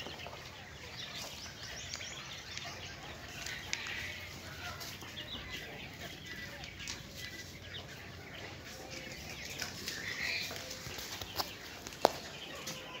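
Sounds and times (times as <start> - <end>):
birds rustling on sand: 0.0 - 13.0
quail chicks peeping: 0.0 - 13.0.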